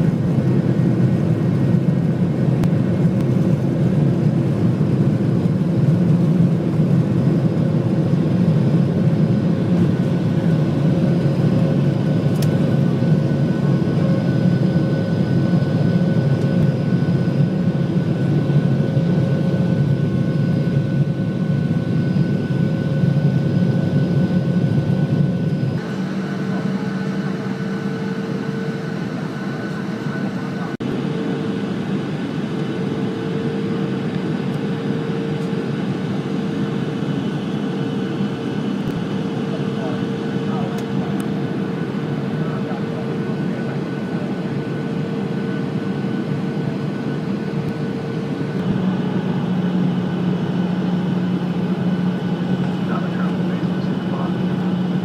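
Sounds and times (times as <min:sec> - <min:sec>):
airplane engine rumble: 0:00.0 - 0:55.0.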